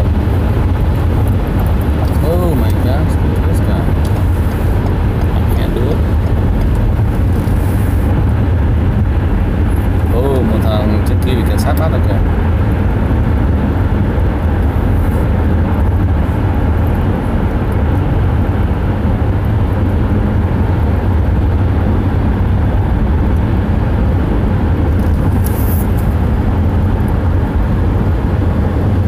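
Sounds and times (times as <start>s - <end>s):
car cabin road and engine rumble: 0.0s - 29.0s.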